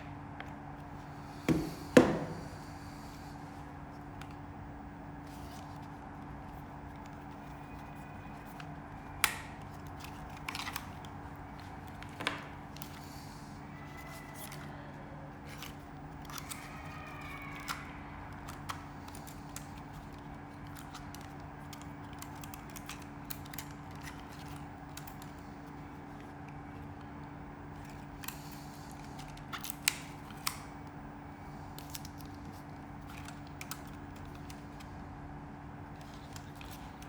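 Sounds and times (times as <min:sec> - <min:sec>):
steady low hum: 0:00.0 - 0:37.0
packaging clicks and scrapes: 0:05.2 - 0:26.9, 0:27.8 - 0:34.9, 0:35.9 - 0:37.0.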